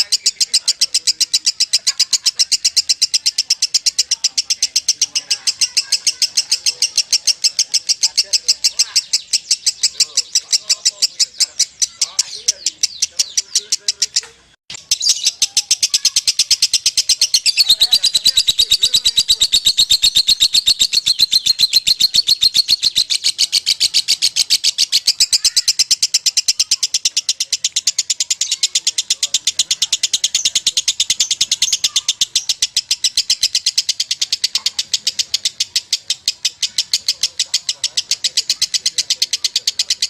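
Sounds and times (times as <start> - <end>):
lovebird shrill chatter: 0.0 - 40.0.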